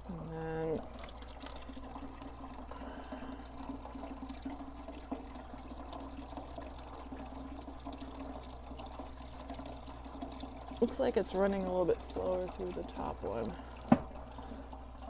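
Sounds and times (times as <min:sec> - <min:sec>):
water running through hoses: 0:00.0 - 0:15.0.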